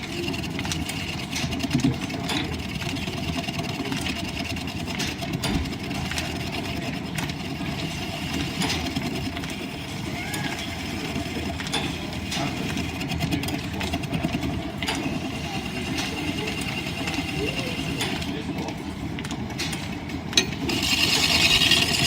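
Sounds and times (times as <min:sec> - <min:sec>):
lathe machinery rumbling: 0:00.0 - 0:22.0.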